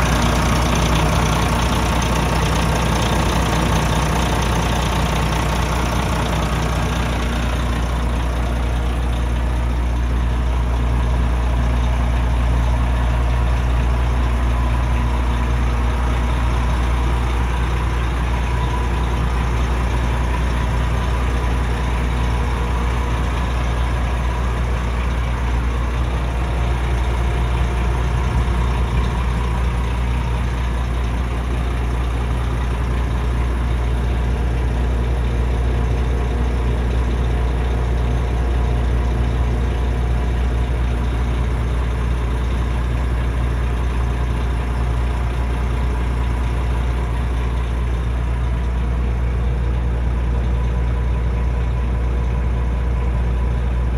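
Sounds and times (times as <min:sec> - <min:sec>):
truck diesel engine idling: 0:00.0 - 0:53.9.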